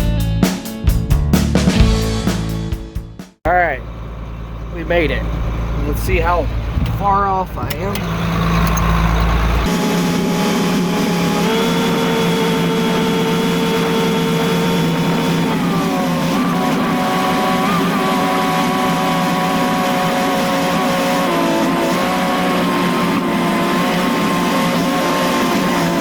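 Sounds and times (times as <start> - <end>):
farm machinery engine whining: 3.5 - 26.0.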